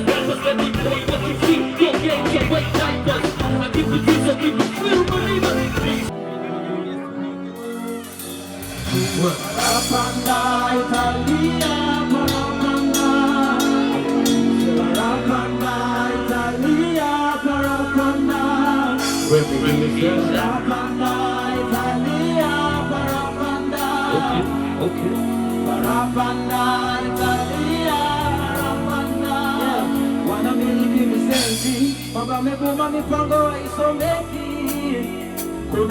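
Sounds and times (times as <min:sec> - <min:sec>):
bass line: 0:00.0 - 0:06.1, 0:07.9 - 0:35.9
person singing: 0:00.0 - 0:35.9.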